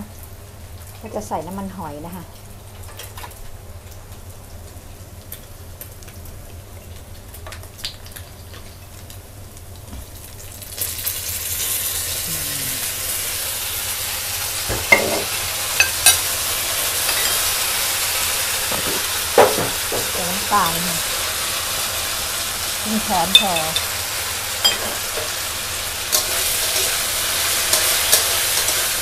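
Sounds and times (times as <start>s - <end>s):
meat frying in a wok: 0.0s - 29.0s.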